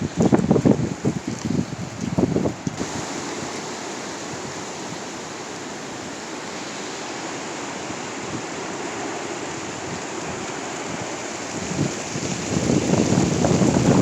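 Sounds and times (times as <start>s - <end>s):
leaves blowing about: 0.0s - 14.0s
strong wind rushing: 0.0s - 14.0s
wind gusts buffeting microphone: 0.0s - 14.0s.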